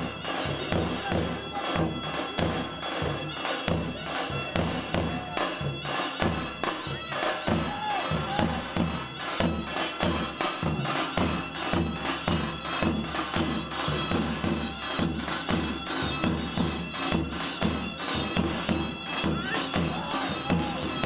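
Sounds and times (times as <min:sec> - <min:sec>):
steady drum beat: 0:00.0 - 0:21.0
zurna melody: 0:00.0 - 0:21.0.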